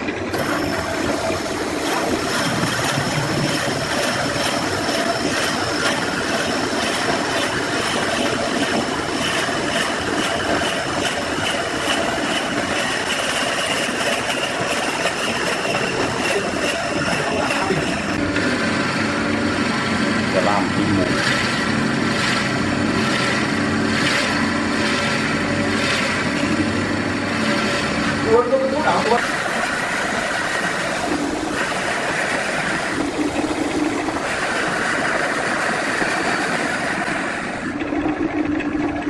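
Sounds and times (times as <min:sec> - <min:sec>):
woodworking power tool whining: 0:00.0 - 0:39.0.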